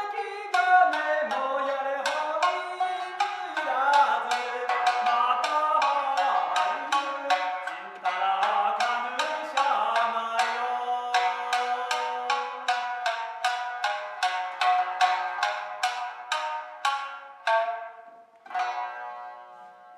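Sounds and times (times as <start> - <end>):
sharp percussive strikes: 0.0 - 19.4.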